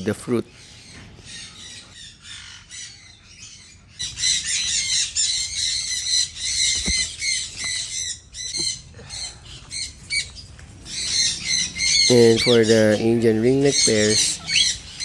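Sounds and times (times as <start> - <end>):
parrots squawking: 0.5 - 15.0.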